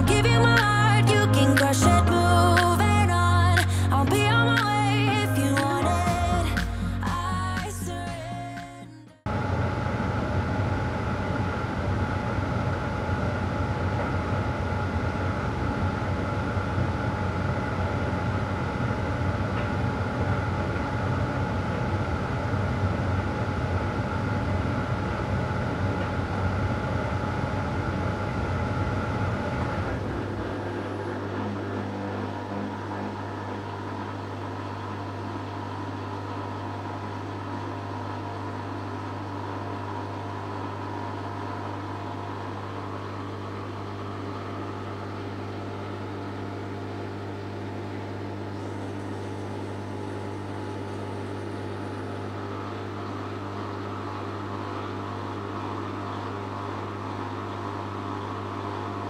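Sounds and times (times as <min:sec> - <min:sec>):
machine low hum: 0:00.0 - 0:59.0.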